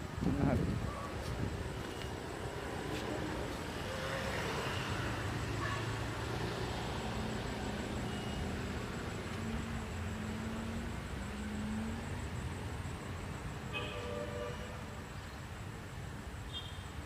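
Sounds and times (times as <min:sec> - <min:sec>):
vehicle engine rumble: 0:00.0 - 0:13.8.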